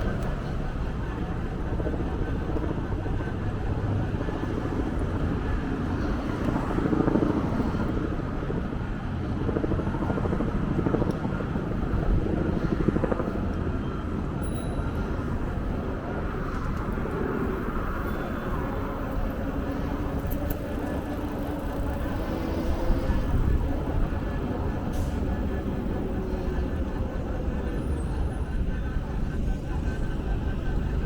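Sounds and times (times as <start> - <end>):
vehicle engine rumble: 0.0 - 31.0.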